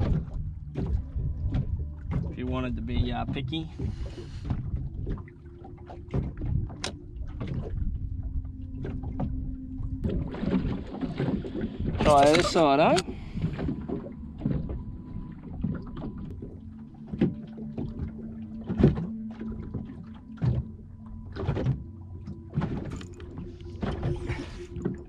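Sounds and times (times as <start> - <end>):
water lapping against boat hull: 0.0 - 25.0.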